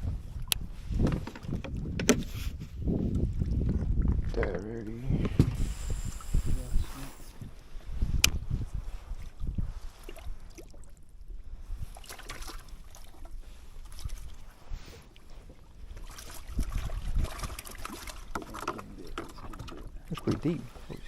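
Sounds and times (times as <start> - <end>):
water lapping against a boat hull: 0.0 - 21.0
wind buffeting the microphone: 0.0 - 21.0.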